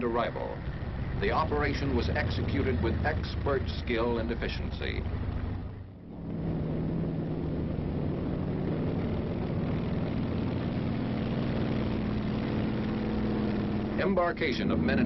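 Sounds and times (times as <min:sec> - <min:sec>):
low hum: 0:00.0 - 0:15.0
tank engines droning: 0:00.0 - 0:15.0.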